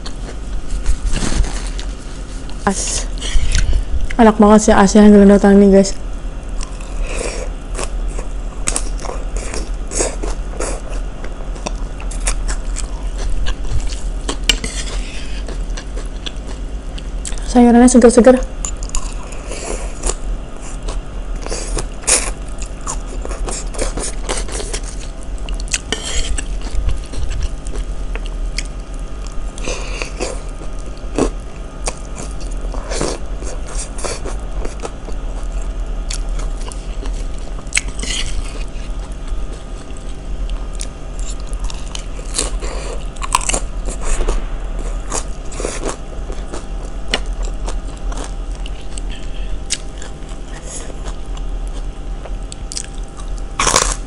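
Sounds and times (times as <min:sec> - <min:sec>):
chewing and crunching raw vegetables: 0:06.5 - 0:17.5, 0:18.6 - 0:54.0.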